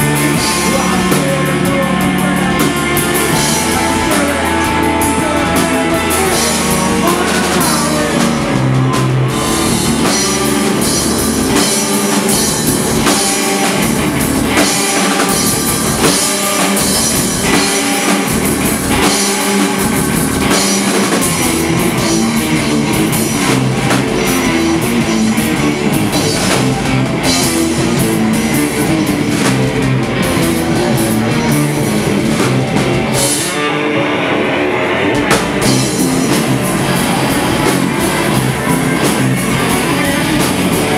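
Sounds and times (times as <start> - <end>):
drum kit: 0.0 - 40.9
heavy electric guitars: 0.0 - 40.9.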